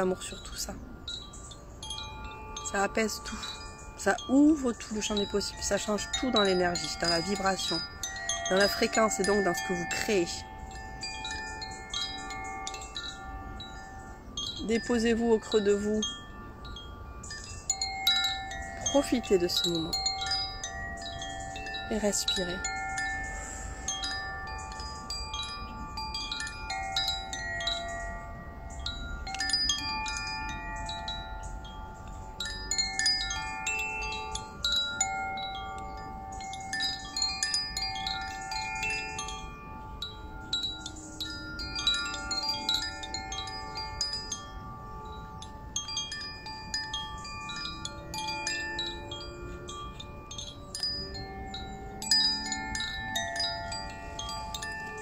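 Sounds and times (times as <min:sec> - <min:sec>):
wind chime tubes ringing: 0:00.0 - 0:55.0.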